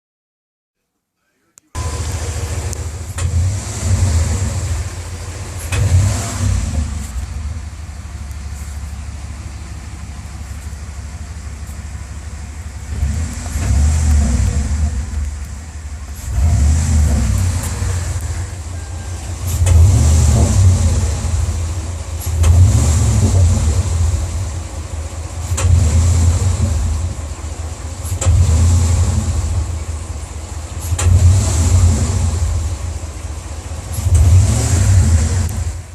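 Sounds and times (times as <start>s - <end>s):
car engine revving: 1.8s - 35.9s.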